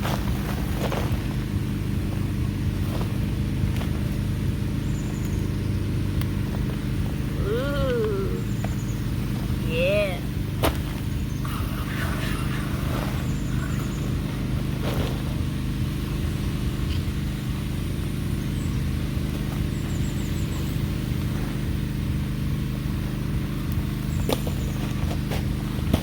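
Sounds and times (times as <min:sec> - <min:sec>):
motor running with low drone: 0:00.0 - 0:26.0.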